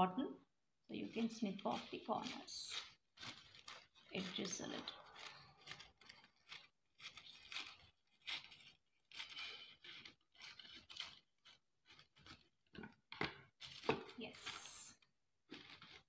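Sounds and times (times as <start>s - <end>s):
scissors snipping paper: 1.0s - 12.8s, 13.6s - 16.0s
paper crinkling: 1.1s - 16.0s.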